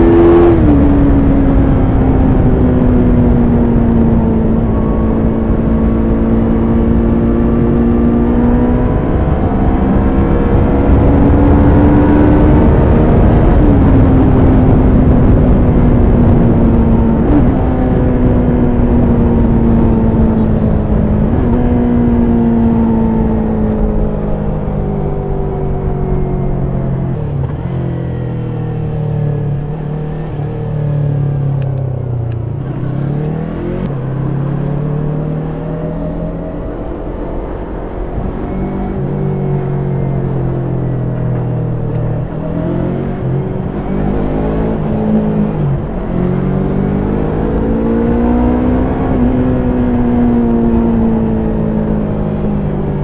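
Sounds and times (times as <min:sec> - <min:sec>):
low wind rumble: 0:00.0 - 0:53.0
motorcycle engine running: 0:00.0 - 0:53.0.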